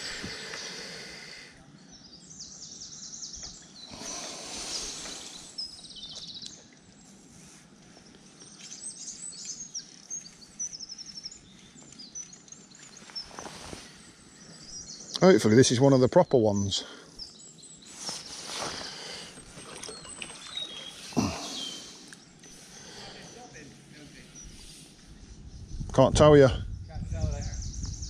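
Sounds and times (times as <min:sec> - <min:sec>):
small songbirds chirping: 0:00.0 - 0:28.0.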